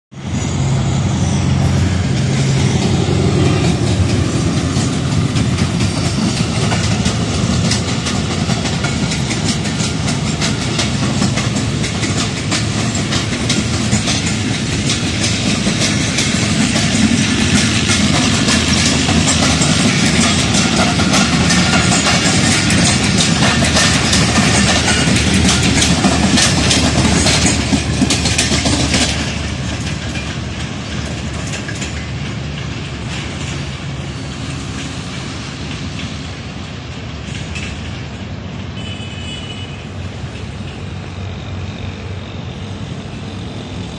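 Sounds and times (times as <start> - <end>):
diesel locomotive engine drone: 0.1 - 43.9
train wheels clattering: 1.4 - 43.9.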